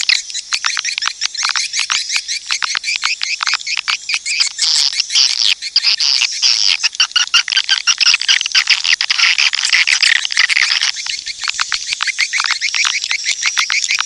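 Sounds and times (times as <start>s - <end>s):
buzzy bird trill: 0.0s - 14.0s
rapid twittering swiftlet chirps: 0.0s - 14.0s.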